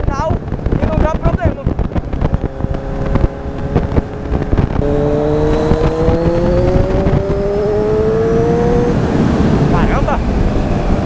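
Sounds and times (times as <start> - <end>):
wind rumble: 0.0 - 11.0
motorcycle engine accelerating: 0.2 - 11.0.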